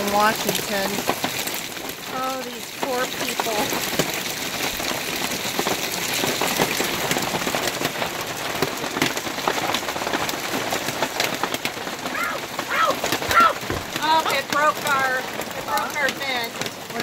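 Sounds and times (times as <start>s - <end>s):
hail and rain on a roof: 0.0s - 17.0s.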